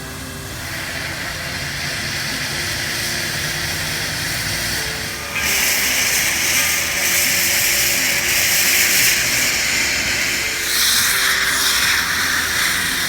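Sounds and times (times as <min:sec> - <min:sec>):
steam locomotive venting steam: 0:00.0 - 0:13.0.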